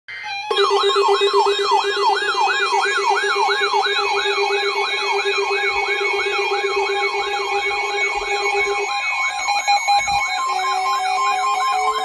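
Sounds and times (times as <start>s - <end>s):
electronic siren yelping: 0.1s - 12.0s.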